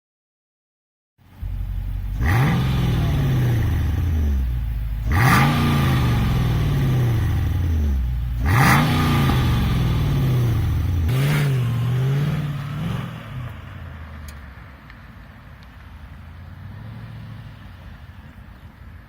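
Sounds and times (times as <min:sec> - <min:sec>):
car engine idling and revving: 0:01.2 - 0:19.0.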